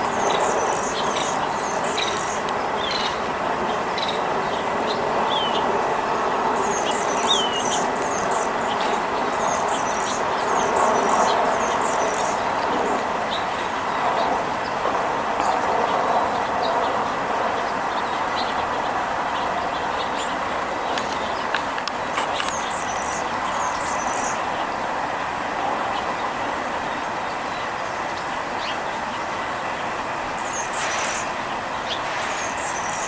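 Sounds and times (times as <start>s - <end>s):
small songbirds chirping: 0.0s - 33.0s.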